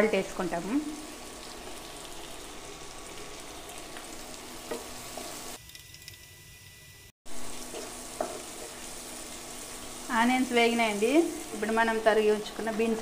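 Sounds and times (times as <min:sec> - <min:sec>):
onions sizzling in hot oil: 0:00.0 - 0:05.6, 0:06.5 - 0:13.0.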